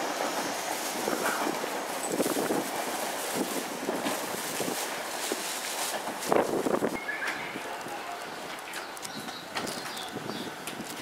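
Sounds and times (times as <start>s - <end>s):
electric train rolling: 0.0s - 11.0s
wind buffeting microphone: 0.0s - 11.0s.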